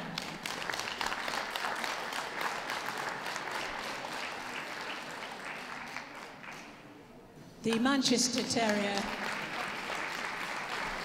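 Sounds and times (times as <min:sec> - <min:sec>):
audience applauding: 0:00.0 - 0:06.8, 0:08.3 - 0:11.0.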